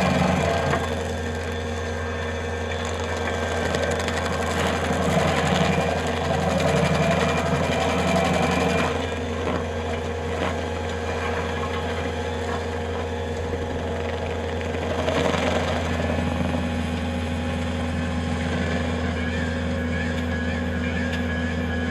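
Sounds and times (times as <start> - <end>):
skid-steer engine running: 0.0 - 21.9.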